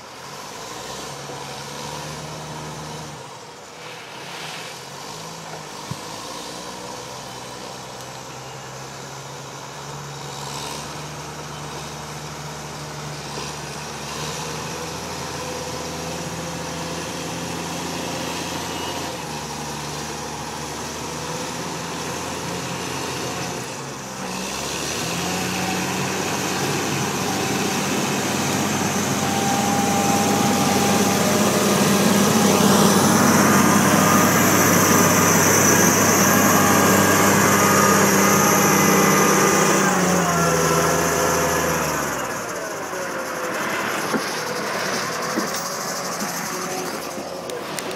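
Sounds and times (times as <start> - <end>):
diesel engine revving: 0.0 - 47.9.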